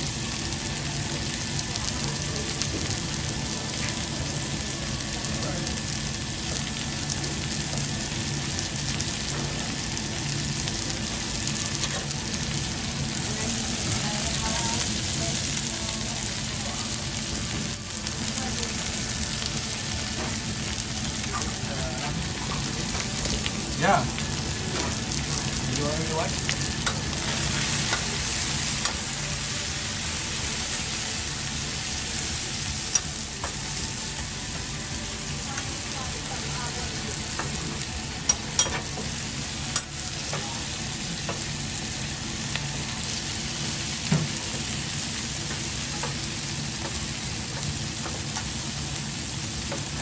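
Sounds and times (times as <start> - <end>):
food sizzling on a griddle: 0.0 - 50.0.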